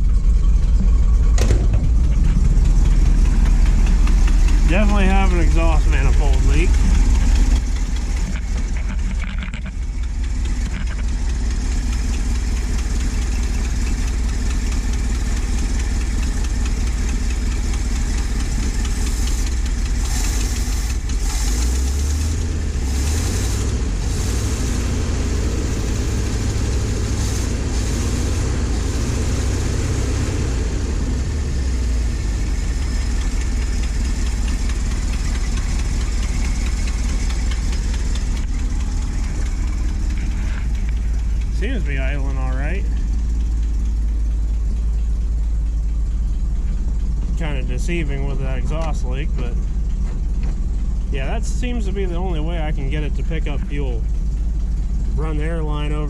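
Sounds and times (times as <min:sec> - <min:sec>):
exhaust manifold leak: 0:00.0 - 0:56.0
truck engine idling: 0:00.0 - 0:56.0.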